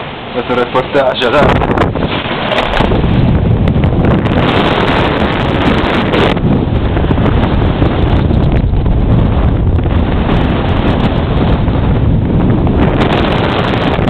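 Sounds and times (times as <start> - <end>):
blizzard wind buffeting microphone: 0.0 - 14.0.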